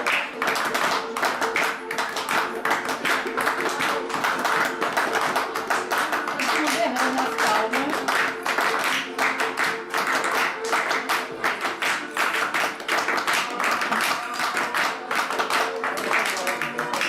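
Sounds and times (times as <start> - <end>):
music with percussive claps: 0.0 - 17.0.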